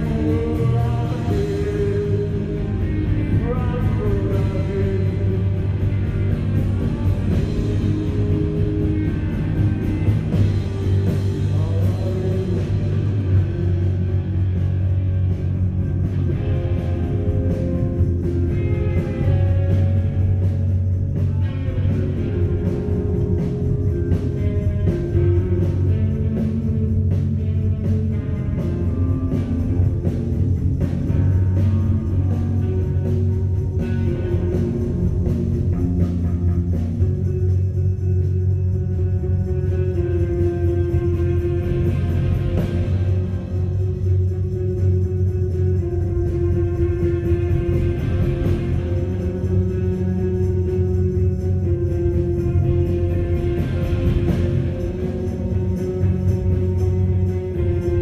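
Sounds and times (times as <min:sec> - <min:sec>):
electric guitars: 0:00.0 - 0:58.0
steady drum beat: 0:00.0 - 0:58.0.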